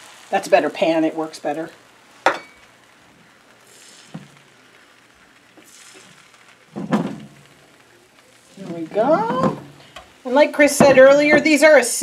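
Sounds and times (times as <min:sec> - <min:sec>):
batter sizzling in a skillet: 0:00.0 - 0:12.0.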